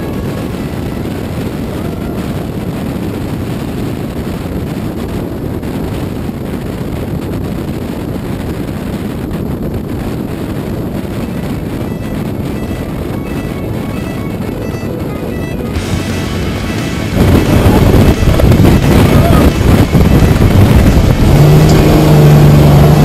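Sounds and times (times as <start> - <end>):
off-road vehicle engine running: 0.0 - 23.0
wind rushing over microphone: 0.0 - 23.0.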